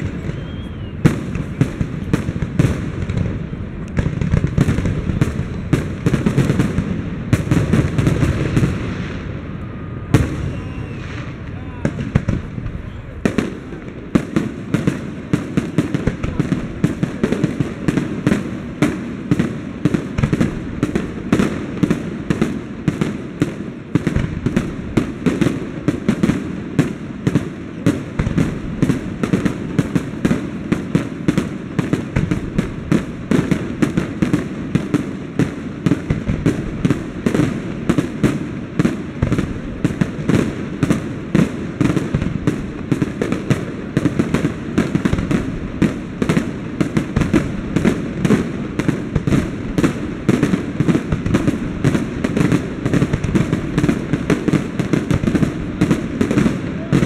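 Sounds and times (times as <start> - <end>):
fireworks bangs: 0.0 - 57.0
fireworks rumble: 0.0 - 57.0.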